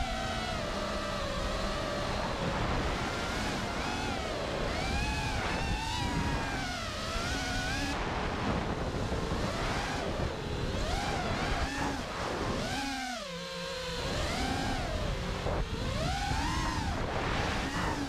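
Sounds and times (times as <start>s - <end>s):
quadcopter motors whining: 0.0s - 18.0s
wind rushing over microphone: 1.7s - 12.8s, 14.0s - 18.0s.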